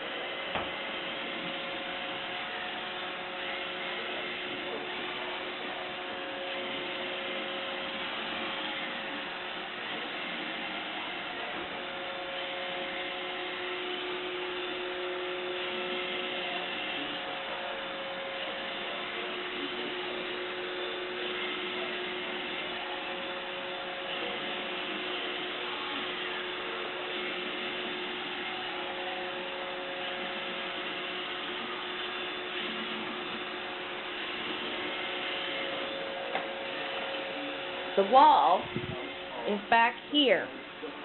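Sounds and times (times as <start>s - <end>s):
whining tones: 0.0s - 39.8s.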